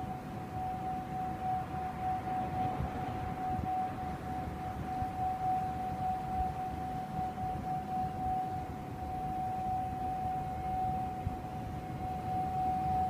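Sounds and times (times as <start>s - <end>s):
steady mid-pitched tone: 0.0s - 13.0s.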